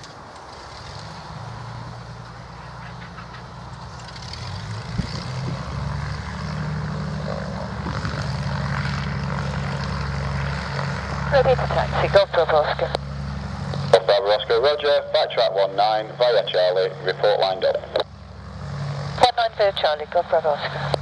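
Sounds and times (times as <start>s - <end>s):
propeller engines idling: 0.0s - 21.0s.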